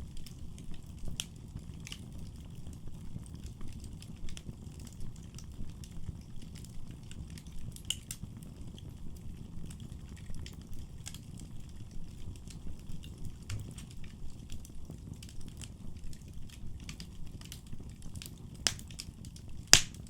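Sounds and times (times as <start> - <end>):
burning wood crackling and popping: 0.0 - 20.0
fire flames rumbling: 0.0 - 20.0.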